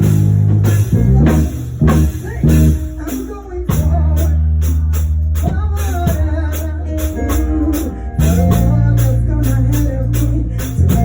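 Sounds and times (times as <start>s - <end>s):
band music with heavy bass: 0.0s - 11.0s
crisp percussion beat: 0.0s - 11.0s.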